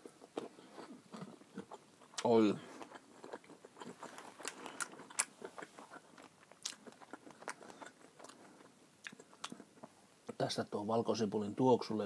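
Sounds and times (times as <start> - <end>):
person chewing: 0.0 - 10.4.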